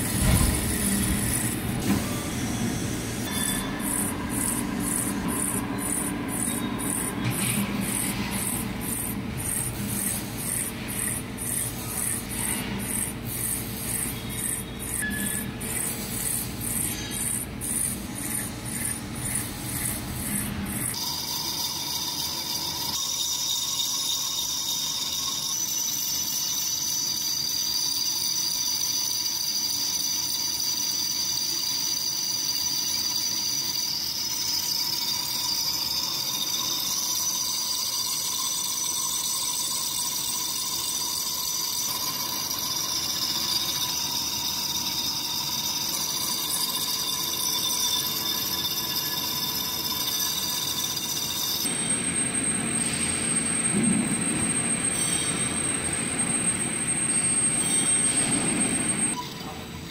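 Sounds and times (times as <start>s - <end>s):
metal lathe whining: 0.0s - 59.7s.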